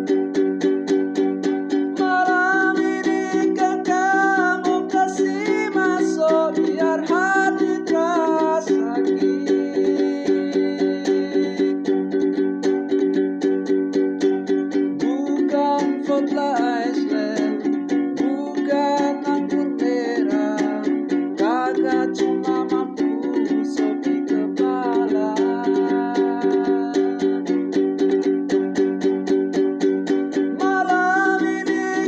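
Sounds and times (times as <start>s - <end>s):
plucked string instrument strumming: 0.0s - 32.0s.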